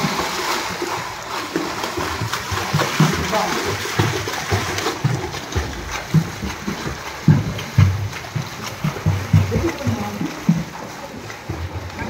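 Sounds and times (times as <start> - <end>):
feet and arms slapping water: 0.0 - 12.0
water splashing in pool: 0.0 - 12.0.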